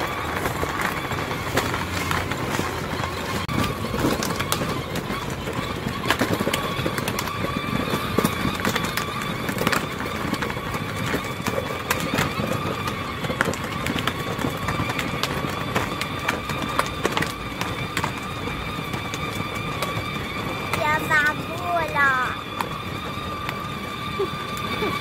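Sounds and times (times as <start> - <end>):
toy motorbike motor whine: 0.0 - 25.0
wheels rattling and clicking: 0.0 - 25.0.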